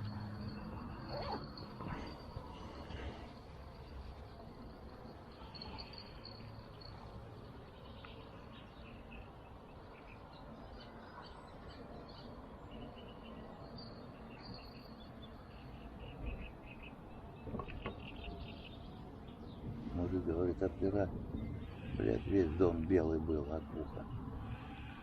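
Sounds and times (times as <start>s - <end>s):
birds chirping: 0.0s - 25.0s
insects chirping: 0.0s - 25.0s.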